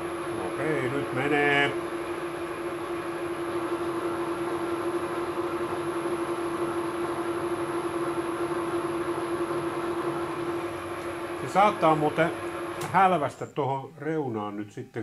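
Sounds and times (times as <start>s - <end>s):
lathe humming: 0.0s - 13.3s.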